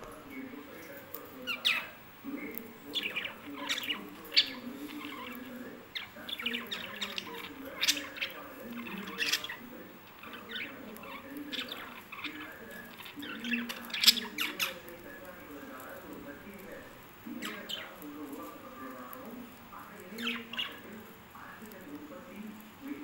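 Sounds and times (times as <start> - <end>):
budgerigars chirping and chattering: 0.1 - 23.0.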